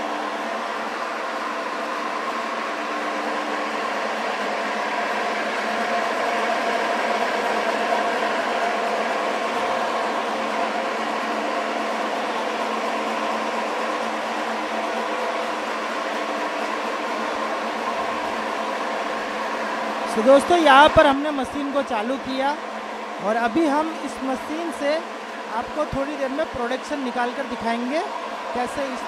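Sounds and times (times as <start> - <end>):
electric machine humming: 0.0 - 29.0.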